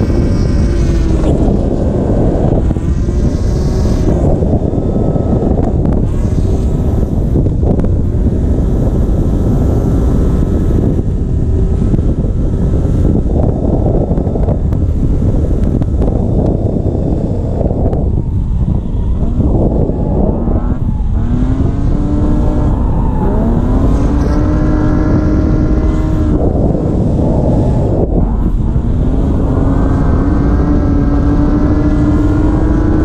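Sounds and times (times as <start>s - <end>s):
car engine revving: 0.0s - 33.0s
wind buffeting microphone: 0.0s - 33.0s.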